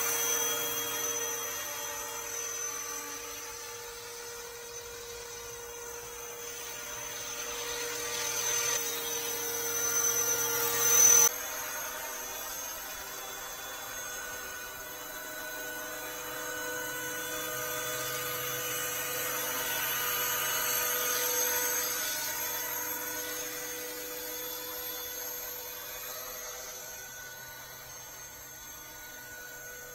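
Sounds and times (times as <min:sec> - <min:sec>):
rc helicopter motor whine: 0:00.0 - 0:29.9.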